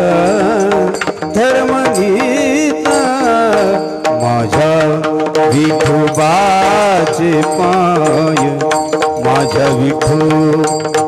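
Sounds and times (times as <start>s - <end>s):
hand drum and percussion: 0.0s - 11.0s
man singing devotional song: 0.0s - 11.0s.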